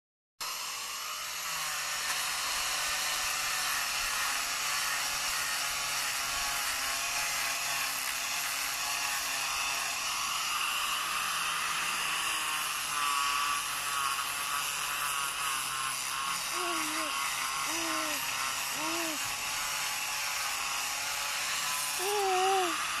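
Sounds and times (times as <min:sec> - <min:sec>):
rotary carving tool whirring: 0:00.4 - 0:23.0.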